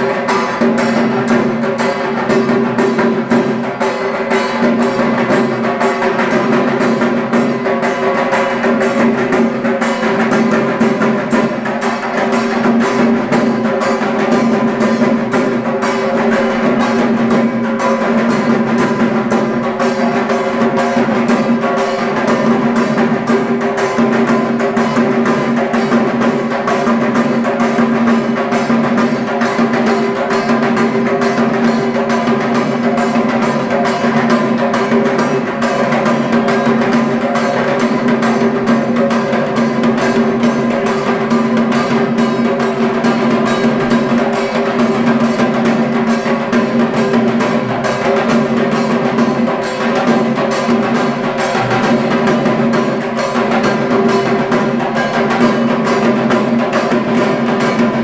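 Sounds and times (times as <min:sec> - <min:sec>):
barrel drums beaten with sticks: 0:00.0 - 0:58.0.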